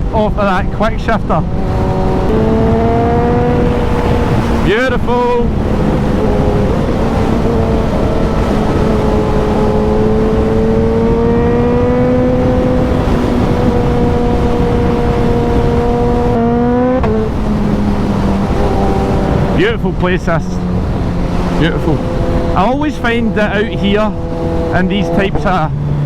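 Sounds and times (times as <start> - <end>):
motorcycle engine accelerating: 0.0 - 26.0
wind on microphone: 0.0 - 26.0.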